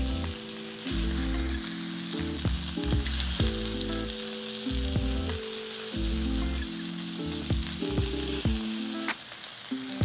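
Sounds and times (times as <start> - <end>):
background music with bass line: 0.0 - 5.4, 6.0 - 8.8
meat sizzling in a pan: 0.0 - 10.0.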